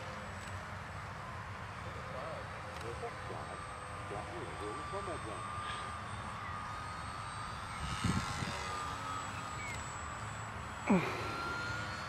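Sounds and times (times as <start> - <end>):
model plane motors whining: 0.0 - 12.0.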